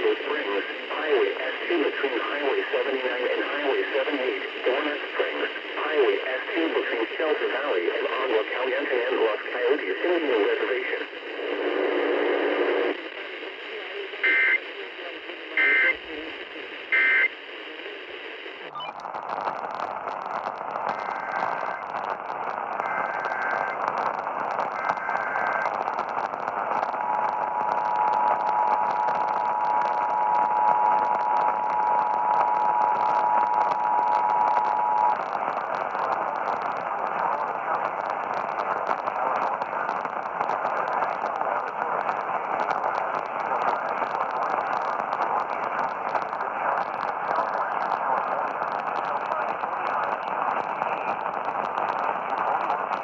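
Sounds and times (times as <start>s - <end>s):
radio static: 0.0s - 53.0s.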